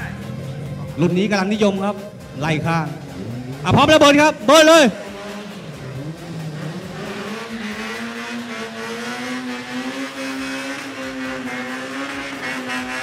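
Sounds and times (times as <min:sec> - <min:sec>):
drag car engine at high revs: 0:02.0 - 0:13.0.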